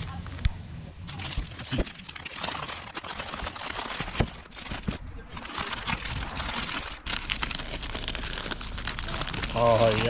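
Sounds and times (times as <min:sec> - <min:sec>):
packaging rustling and crinkling: 0:01.1 - 0:10.0.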